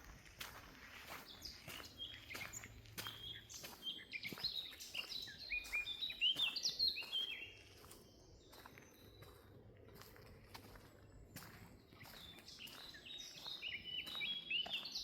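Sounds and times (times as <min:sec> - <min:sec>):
footsteps on forest floor: 0:00.0 - 0:15.0
songbird chirping: 0:00.0 - 0:15.0.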